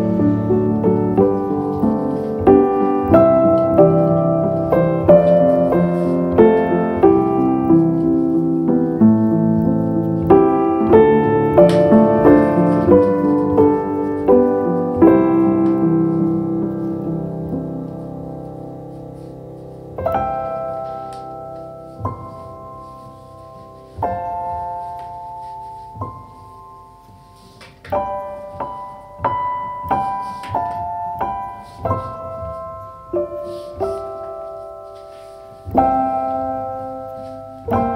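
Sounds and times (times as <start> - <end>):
solo piano music: 0.0 - 37.9.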